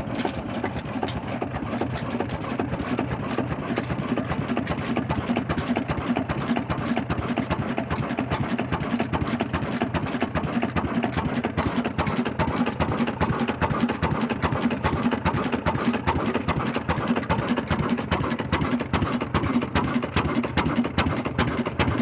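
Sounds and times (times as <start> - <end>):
stationary diesel engine running: 0.0 - 22.0.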